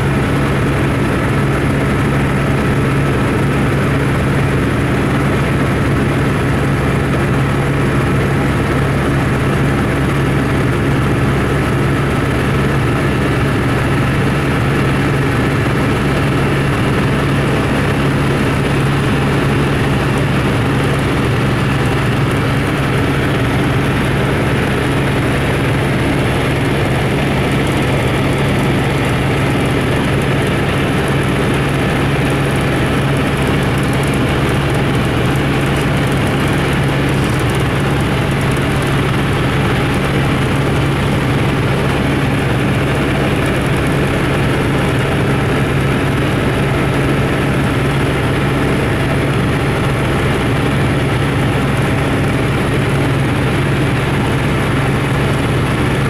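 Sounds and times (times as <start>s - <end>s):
small aircraft engine and propeller: 0.0s - 56.0s.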